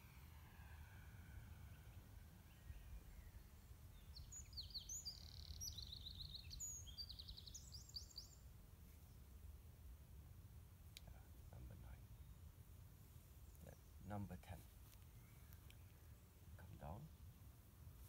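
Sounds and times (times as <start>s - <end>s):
songbird chirping and trilling: 0.0s - 9.3s, 11.0s - 17.5s.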